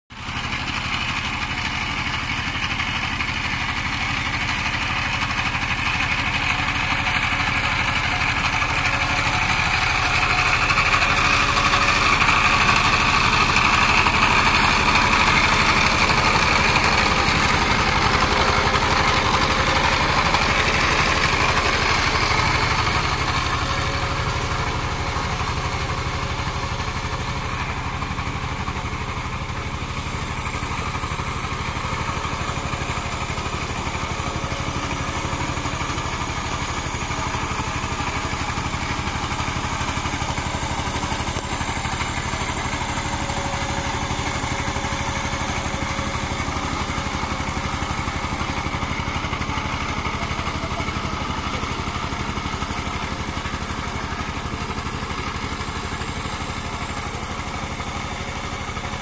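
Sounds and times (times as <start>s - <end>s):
diesel engine chugging: 0.1s - 59.0s.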